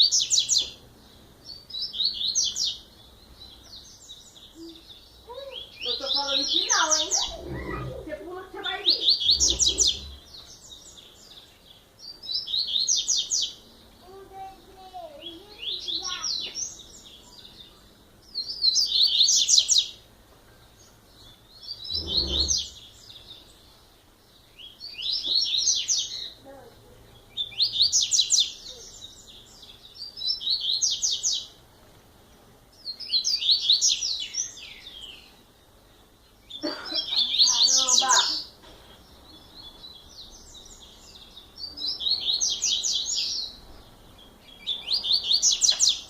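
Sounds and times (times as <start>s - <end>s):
bird twittering song: 0.0s - 46.0s.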